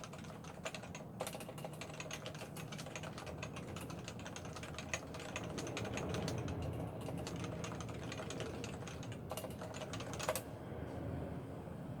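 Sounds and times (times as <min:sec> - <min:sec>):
typing on a keyboard: 0:00.0 - 0:10.5.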